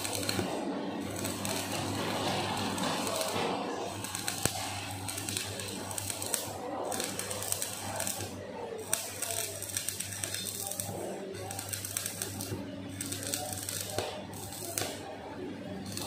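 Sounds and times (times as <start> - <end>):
arc welding crackling: 0.0 - 16.0.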